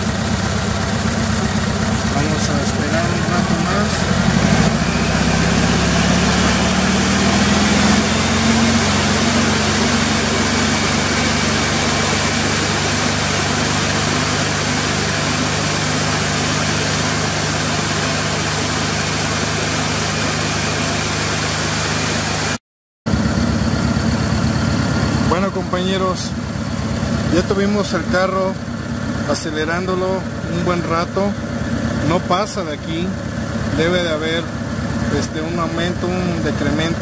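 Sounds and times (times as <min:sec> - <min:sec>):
car engine revving and idling: 0:00.0 - 0:37.0.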